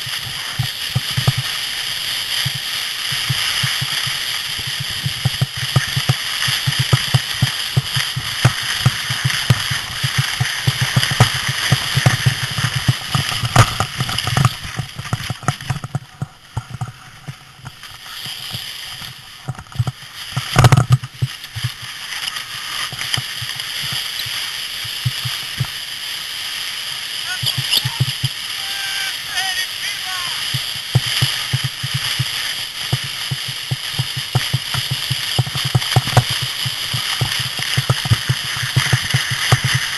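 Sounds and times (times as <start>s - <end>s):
sled scraping down snow: 0.0s - 39.9s.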